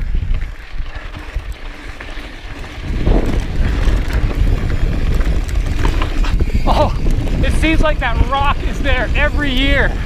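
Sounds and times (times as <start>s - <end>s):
bike tyres on dirt trail: 0.0s - 10.0s
wind rumbling on microphone: 0.0s - 10.0s.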